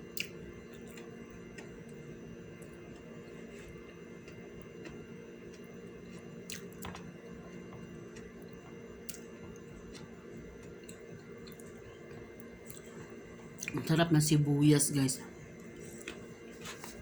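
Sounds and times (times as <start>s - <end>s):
steady low hum: 0.0s - 17.0s
person chewing food: 0.1s - 13.8s, 15.6s - 17.0s.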